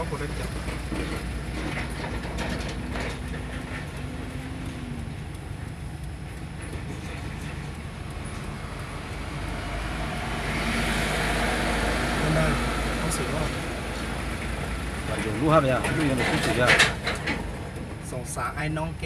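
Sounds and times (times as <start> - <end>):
road noise: 0.0 - 19.0
truck engine rumble: 0.0 - 19.0.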